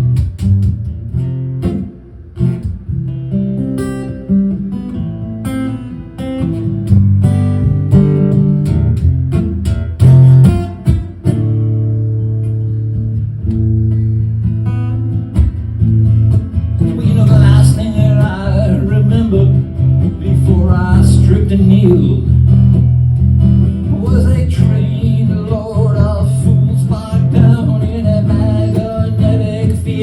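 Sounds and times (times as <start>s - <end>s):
acoustic guitar strumming chords: 0.0s - 30.0s.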